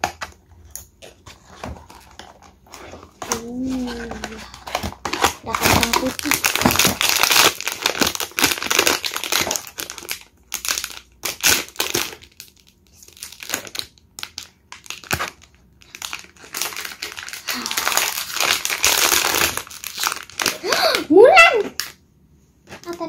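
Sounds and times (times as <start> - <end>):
plastic foil bag crinkling: 0.7 - 21.9.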